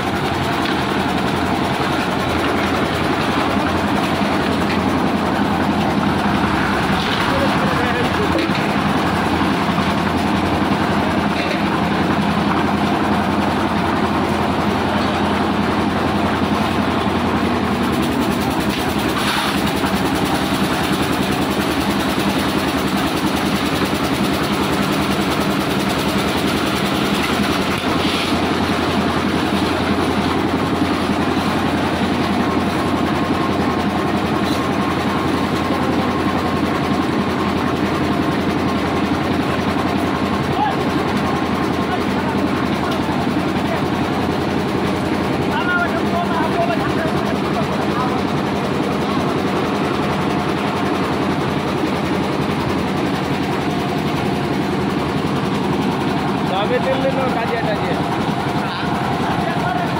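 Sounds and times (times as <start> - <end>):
concrete mixer running: 0.0 - 59.9.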